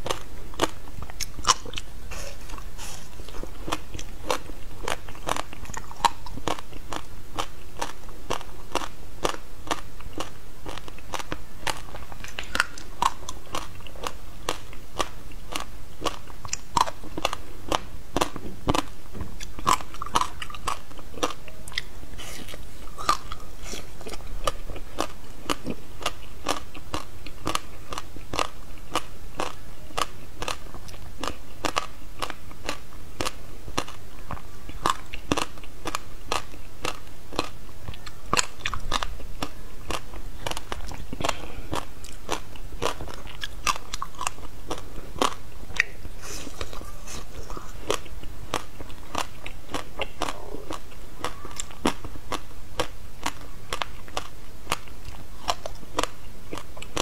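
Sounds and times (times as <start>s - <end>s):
crunchy chewing of frozen food: 0.0s - 57.0s.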